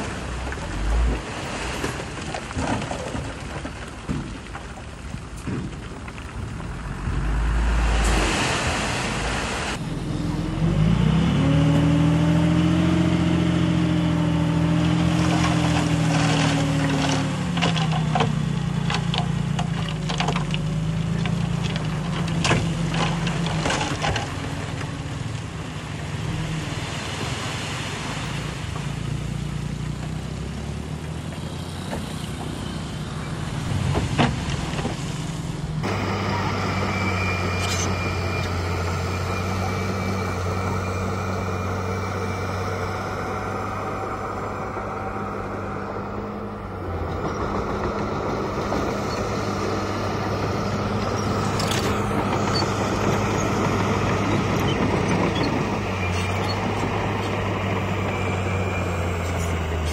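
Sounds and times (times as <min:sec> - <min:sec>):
heavy diesel engine running: 0:00.0 - 0:27.2, 0:28.8 - 0:59.9.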